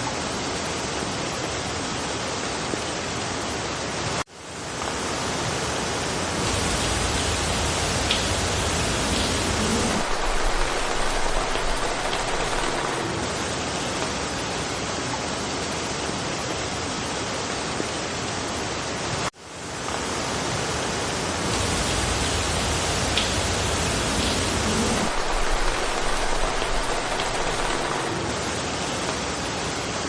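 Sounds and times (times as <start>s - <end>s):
rain falling through forest: 0.0s - 30.0s.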